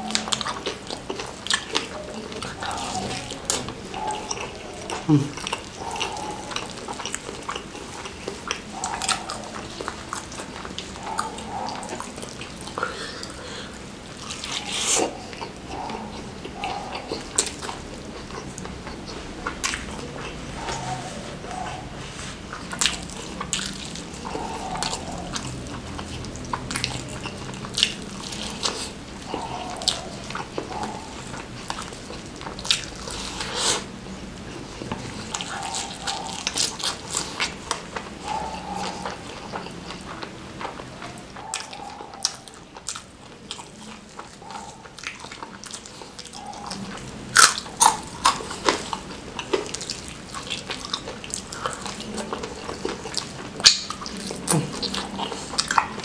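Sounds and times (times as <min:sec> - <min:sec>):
person chewing crunchy chicken: 0:00.0 - 0:56.0
wet mouth sounds: 0:00.0 - 0:56.0.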